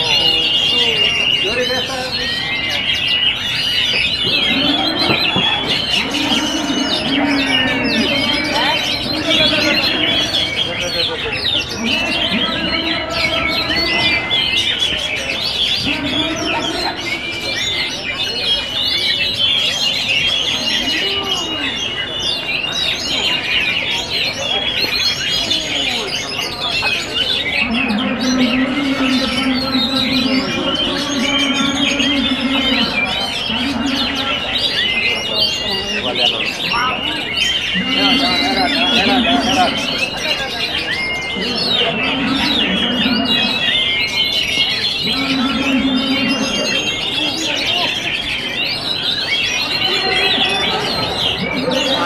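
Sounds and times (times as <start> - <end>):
birds singing: 0.0 - 52.0.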